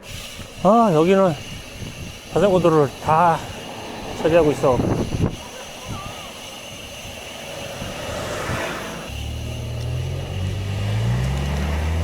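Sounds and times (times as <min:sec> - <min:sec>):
heavy vehicle engine: 0:00.0 - 0:12.0
steady rushing noise: 0:00.0 - 0:12.0.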